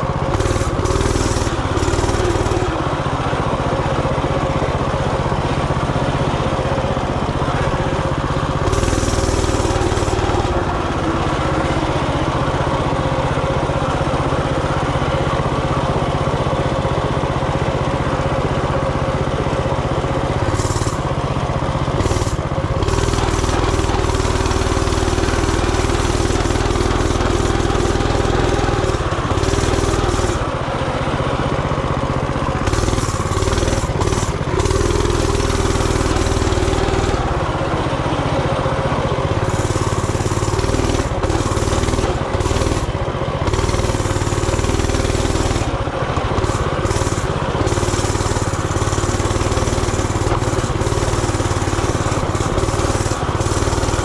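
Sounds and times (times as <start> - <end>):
minibike engine running: 0.0 - 54.0.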